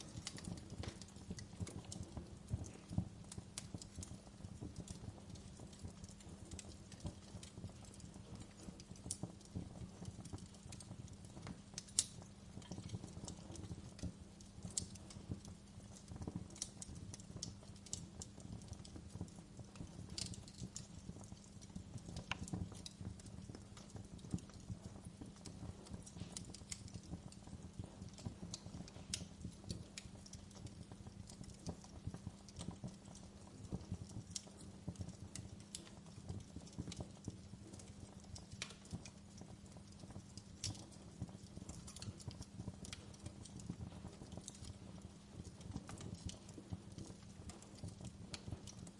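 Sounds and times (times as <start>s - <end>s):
fire low rumble: 0.0s - 48.9s
wood fire crackling and popping: 0.0s - 48.9s.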